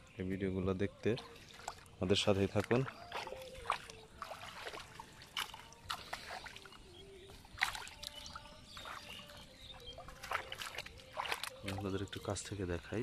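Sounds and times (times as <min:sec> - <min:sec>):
shallow water sloshing and splashing: 0:01.2 - 0:12.5.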